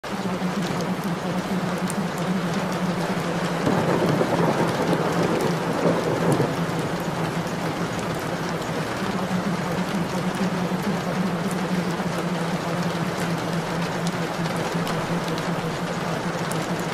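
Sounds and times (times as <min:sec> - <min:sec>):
rain falling: 0:00.0 - 0:16.9
steady low hum: 0:00.0 - 0:16.9.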